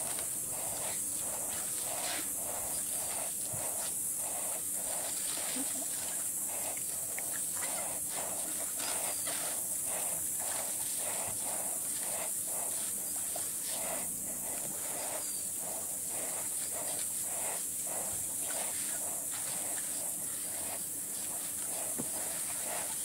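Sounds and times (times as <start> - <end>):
soft pulse: 0.0 - 23.0
steady high hiss: 0.0 - 23.0.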